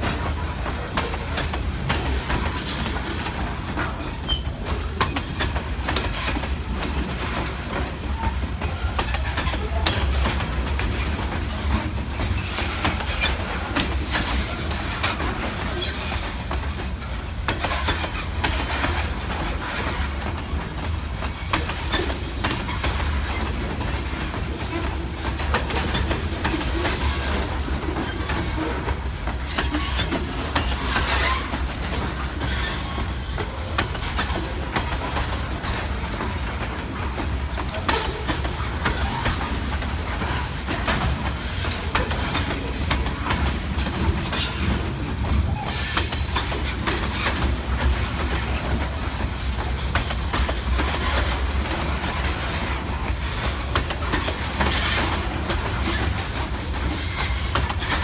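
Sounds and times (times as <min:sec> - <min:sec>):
low rumble of rolling freight cars: 0:00.0 - 0:58.0
wheels clacking over rail joints: 0:00.0 - 0:58.0.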